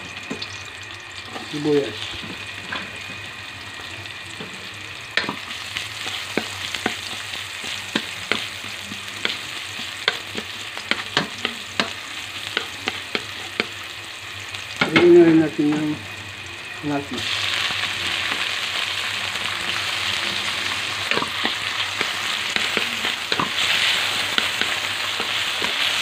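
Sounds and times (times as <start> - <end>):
onion sizzling in oil: 0.0 - 26.0.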